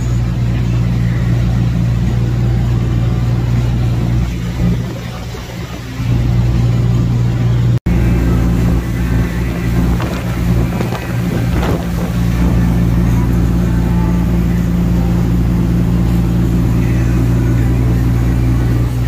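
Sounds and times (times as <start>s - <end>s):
boat engines droning: 0.0s - 19.0s.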